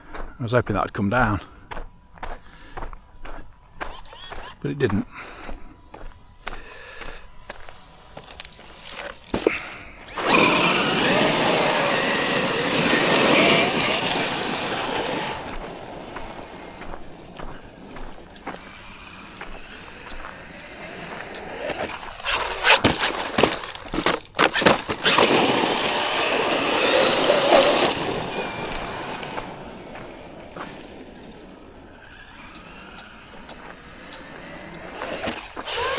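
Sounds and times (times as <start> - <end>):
electric motor whining: 3.2 - 35.9
tyres spraying gravel: 6.7 - 35.9.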